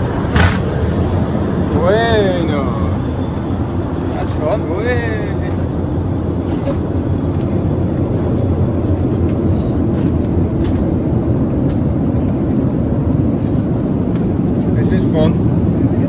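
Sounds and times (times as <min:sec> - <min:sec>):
airplane cabin noise: 0:00.0 - 0:16.0.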